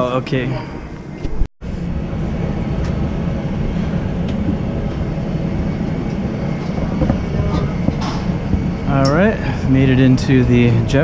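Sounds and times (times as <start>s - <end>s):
machinery rumbling with hiss: 0.0s - 11.0s.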